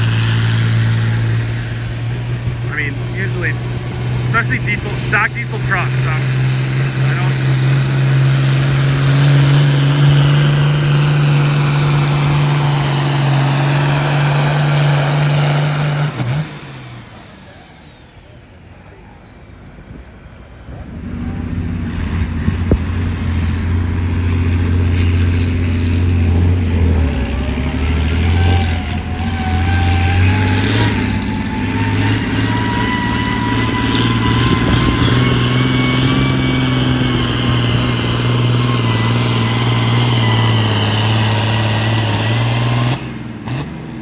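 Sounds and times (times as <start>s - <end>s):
turbo whine: 0.0s - 18.4s, 22.5s - 44.0s
diesel truck engine at full throttle: 0.0s - 44.0s.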